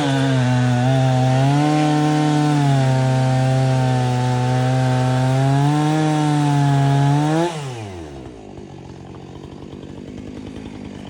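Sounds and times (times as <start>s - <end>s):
chainsaw revving and idling: 0.0s - 11.0s.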